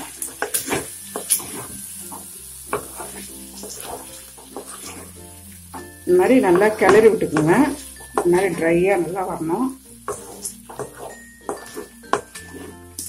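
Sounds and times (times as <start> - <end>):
food sizzling: 0.0 - 13.0
spatula scraping metal pan: 0.0 - 13.0.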